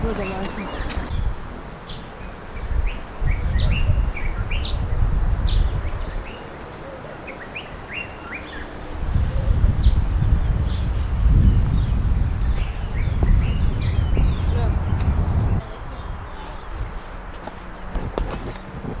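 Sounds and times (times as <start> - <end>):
birds chirping: 0.0 - 18.7.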